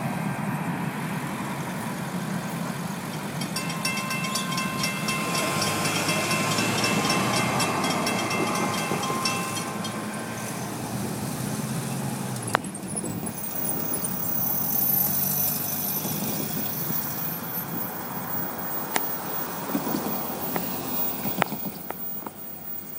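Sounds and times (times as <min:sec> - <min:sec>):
truck engine driving by: 0:00.0 - 0:22.9
crossing warning bell ringing: 0:01.5 - 0:22.9.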